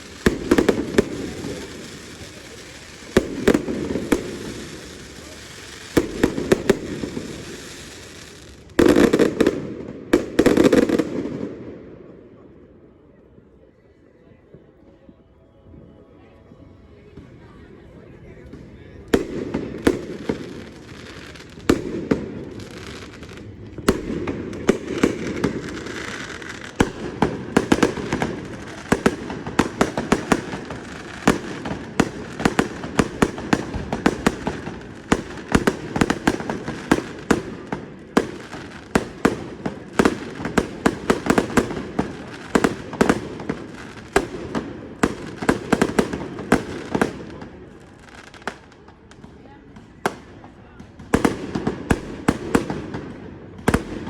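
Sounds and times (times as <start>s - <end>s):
fireworks bangs and crackling: 0.0s - 13.3s, 18.3s - 54.0s.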